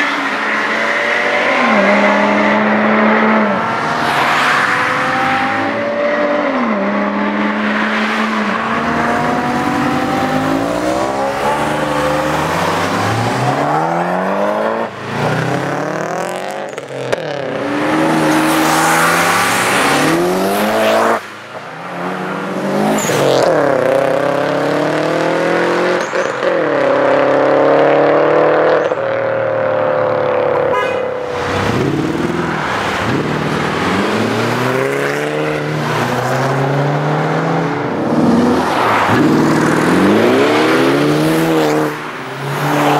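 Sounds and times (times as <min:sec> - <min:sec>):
car engines accelerating hard: 0:00.0 - 0:42.9.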